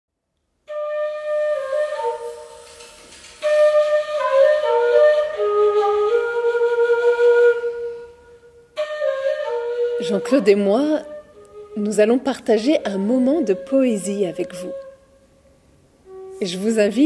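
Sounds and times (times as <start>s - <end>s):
wind instrument melody: 0.7s - 15.4s, 16.0s - 17.0s.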